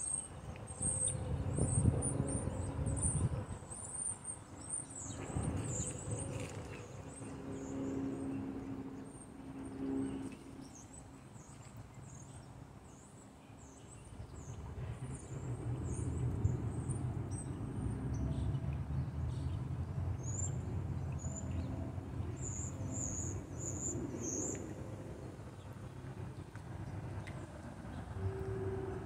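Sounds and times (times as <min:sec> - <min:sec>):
train rumbling by: 0:00.0 - 0:12.8, 0:13.4 - 0:29.0.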